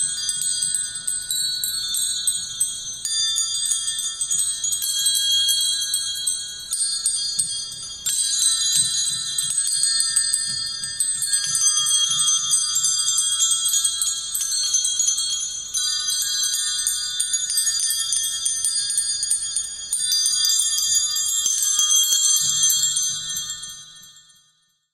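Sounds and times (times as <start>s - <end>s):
small bells jingling: 0.0s - 24.9s.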